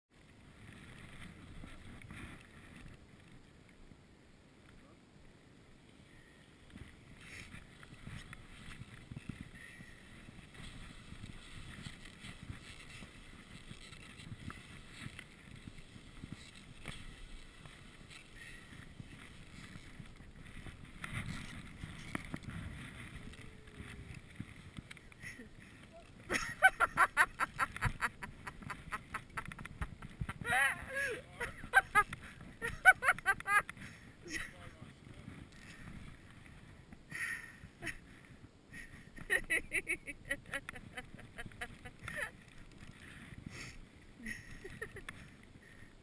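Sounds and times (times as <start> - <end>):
skis scraping over snow: 0.2 - 3.6, 5.8 - 46.0.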